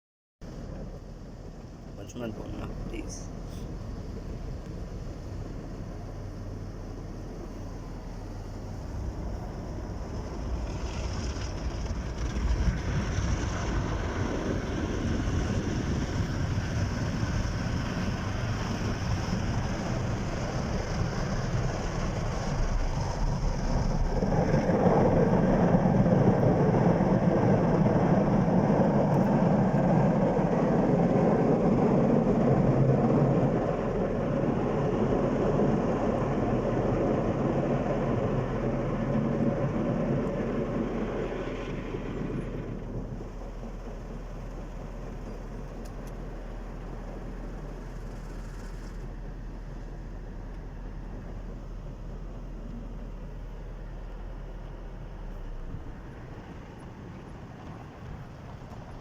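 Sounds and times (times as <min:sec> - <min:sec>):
car wash machinery rumble: 0:00.5 - 0:59.0.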